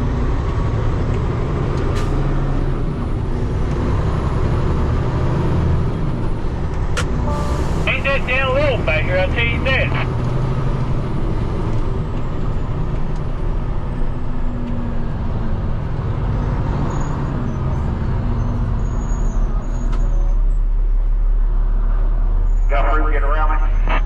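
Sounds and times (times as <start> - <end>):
truck diesel engine running: 0.0 - 19.6.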